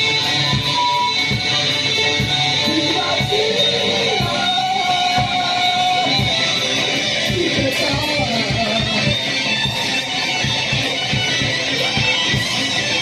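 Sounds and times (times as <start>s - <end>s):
distorted electric guitar strumming: 0.0s - 13.0s
drums: 0.0s - 13.0s.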